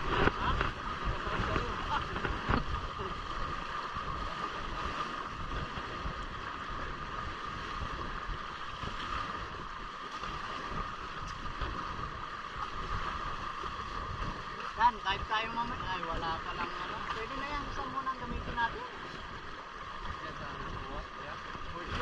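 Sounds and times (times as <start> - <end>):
wind buffeting microphone: 0.0 - 21.0
water rushing past hulls: 0.0 - 22.0.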